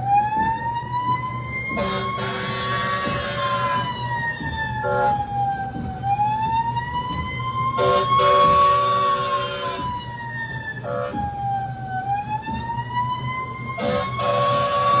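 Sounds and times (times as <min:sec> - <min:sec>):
electronic siren wail: 0:00.0 - 0:15.0.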